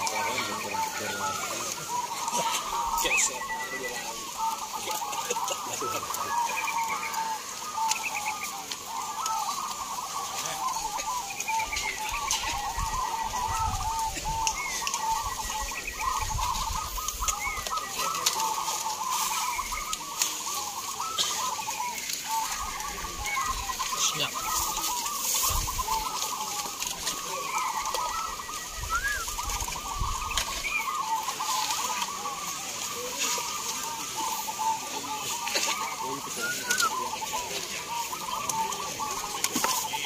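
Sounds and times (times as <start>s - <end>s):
doves cooing: 0.0s - 40.0s.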